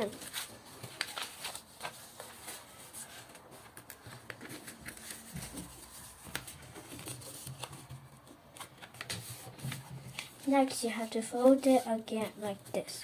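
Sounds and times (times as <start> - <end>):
paper rustling and crackling: 0.0 - 12.6.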